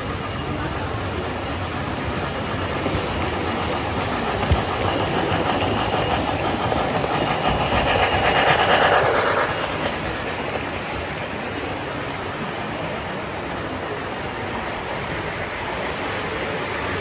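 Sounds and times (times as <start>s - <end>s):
model trains rolling on track: 0.0s - 17.0s.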